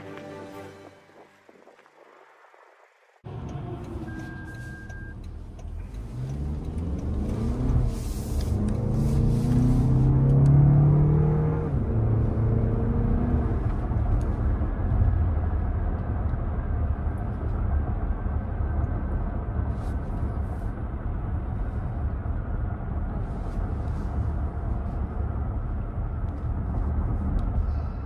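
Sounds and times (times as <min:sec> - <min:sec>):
road and tyre rumble: 0:00.0 - 0:28.0
car engine pulling: 0:02.0 - 0:28.0.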